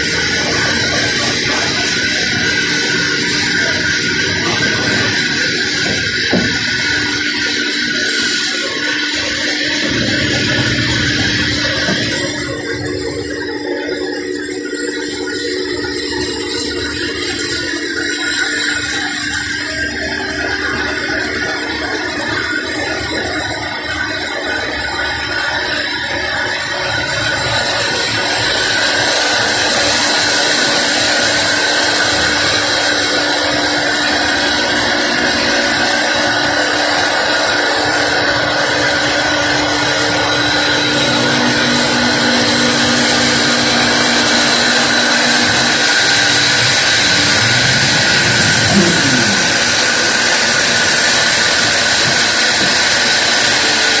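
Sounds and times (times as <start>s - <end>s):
sawmill machinery whining: 0.0s - 54.0s.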